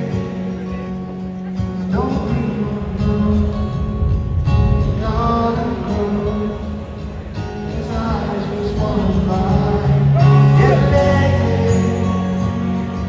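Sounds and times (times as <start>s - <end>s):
bass guitar: 0.0s - 13.0s
drums: 0.0s - 13.0s
electric guitar: 0.0s - 13.0s
strummed acoustic guitar: 0.0s - 13.0s
person singing: 1.8s - 13.0s.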